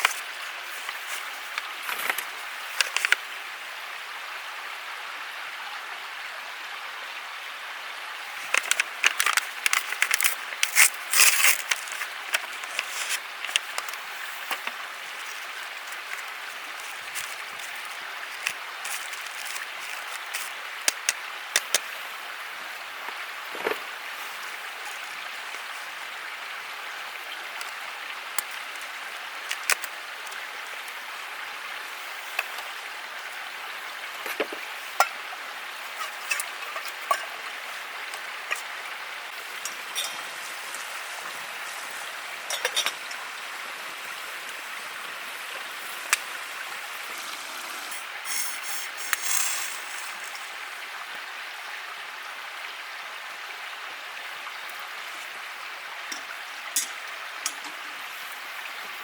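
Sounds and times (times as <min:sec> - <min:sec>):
flowing stream rushing: 0:00.0 - 0:59.0.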